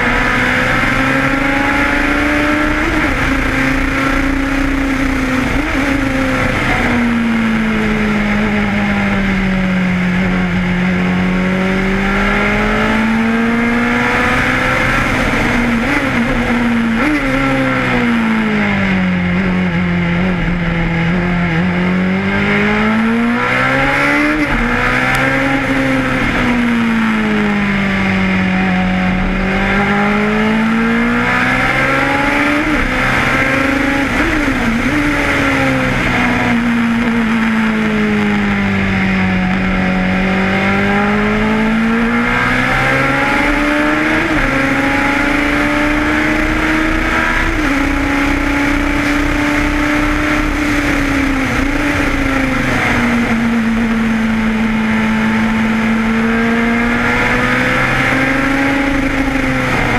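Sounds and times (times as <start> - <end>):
racing car engine at speed: 0.0 - 59.9.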